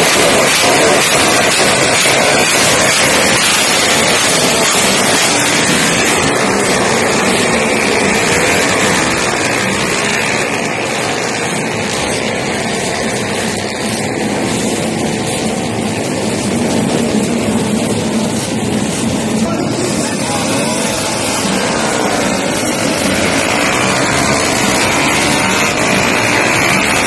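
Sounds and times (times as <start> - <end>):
motorcycle engines roaring: 0.0 - 27.0.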